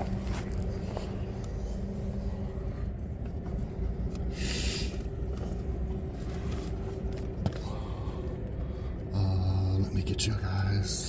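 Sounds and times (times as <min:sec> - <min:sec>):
constant hum: 0:00.0 - 0:11.0
low mechanical rumble: 0:00.0 - 0:11.0.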